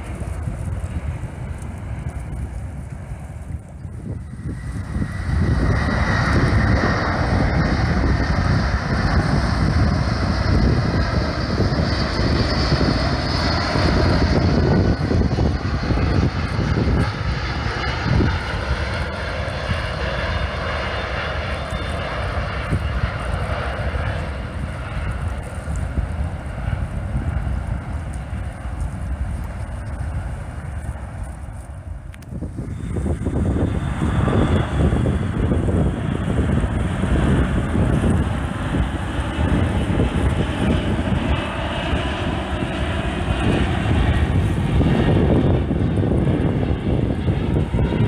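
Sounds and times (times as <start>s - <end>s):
jet engine rumble: 0.0s - 48.0s
thin jet whine: 0.0s - 48.0s.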